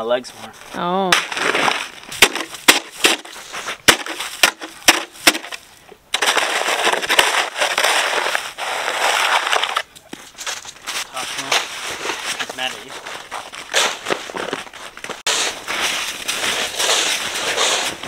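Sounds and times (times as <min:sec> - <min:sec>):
snow shovel chopping icy snow: 0:01.2 - 0:18.0
shovel scraping through snow: 0:01.3 - 0:04.6, 0:06.2 - 0:18.0.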